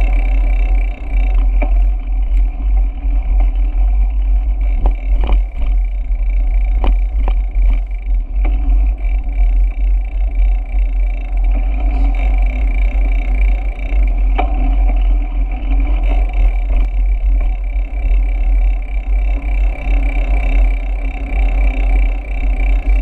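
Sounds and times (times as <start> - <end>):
bicycle ride hum: 0.0 - 23.0
wind rumble on microphone: 0.0 - 23.0.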